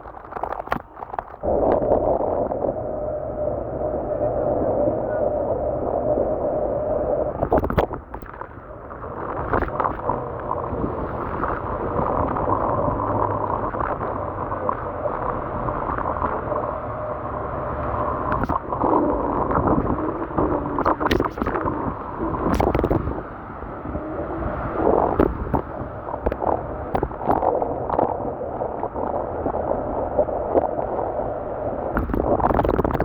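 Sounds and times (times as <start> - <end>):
faint hum: 0.0 - 33.0
wind and wet road noise: 0.0 - 33.0.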